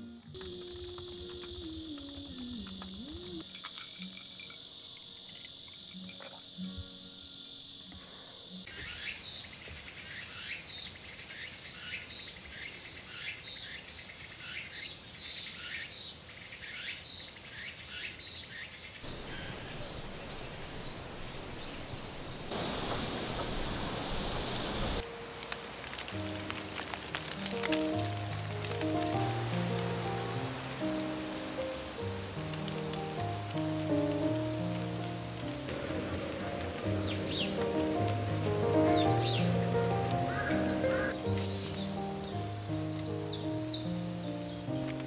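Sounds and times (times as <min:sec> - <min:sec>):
insect and bird calls: 0:00.0 - 0:45.0
insect chorus: 0:00.0 - 0:45.0
rain hiss: 0:00.0 - 0:45.0.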